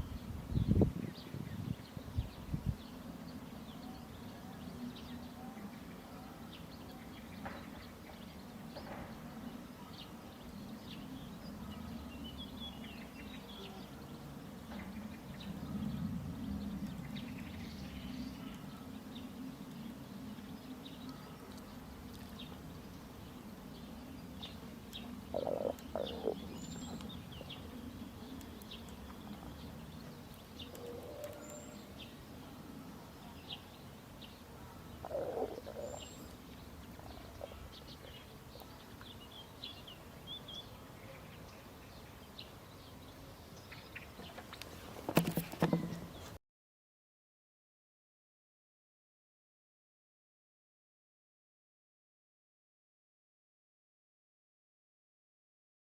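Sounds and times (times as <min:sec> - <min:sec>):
small birds chirping: 0:00.0 - 0:46.4.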